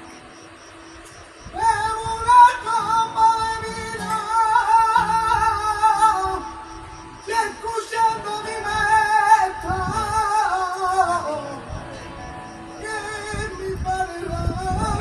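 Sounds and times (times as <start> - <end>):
guitar: 0.0 - 15.0
person singing flamenco: 1.5 - 12.2, 12.8 - 15.0.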